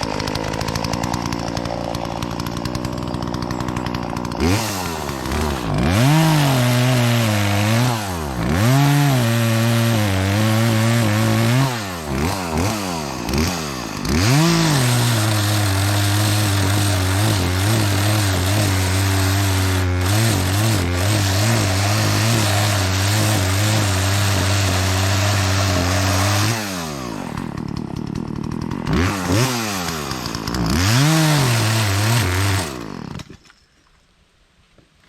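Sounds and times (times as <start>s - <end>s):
chainsaw engine running: 0.0s - 33.5s.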